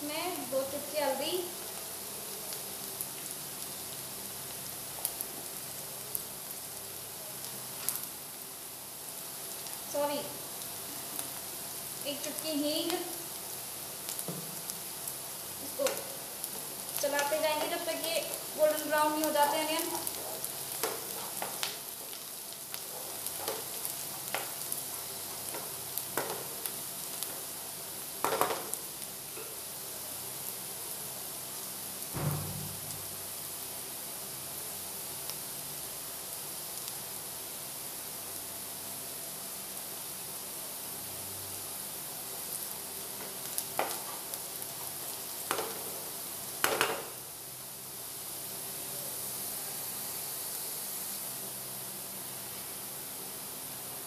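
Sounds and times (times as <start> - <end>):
onion sizzling in hot oil: 0.0 - 54.0.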